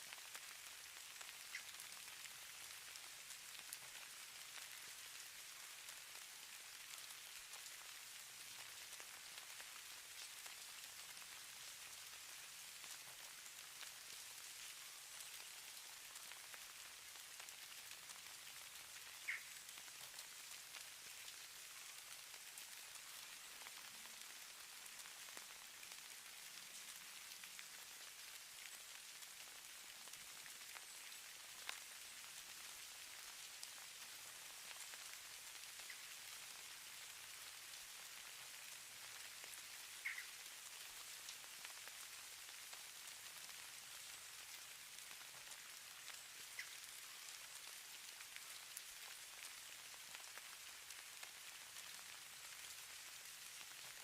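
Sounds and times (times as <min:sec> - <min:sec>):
hiss of falling snow: 0:00.0 - 0:54.0.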